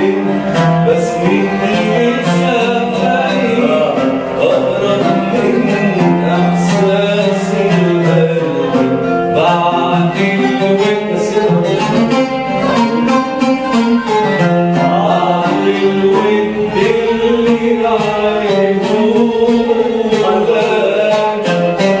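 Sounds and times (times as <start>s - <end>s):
man singing: 0.0s - 13.4s, 14.4s - 22.0s
plucked string instruments: 0.0s - 22.0s.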